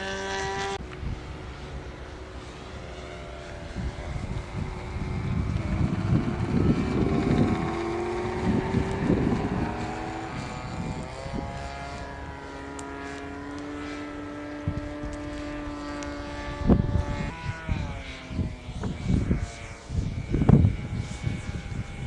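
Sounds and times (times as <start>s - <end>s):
model airplane engine droning: 0.0s - 22.0s
low rumbling gusts: 0.8s - 22.0s.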